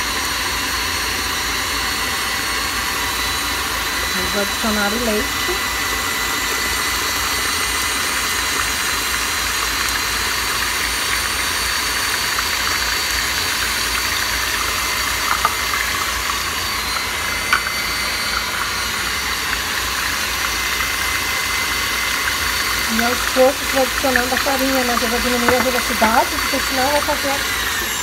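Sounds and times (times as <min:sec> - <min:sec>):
stand mixer motor whirring: 0:00.0 - 0:28.0.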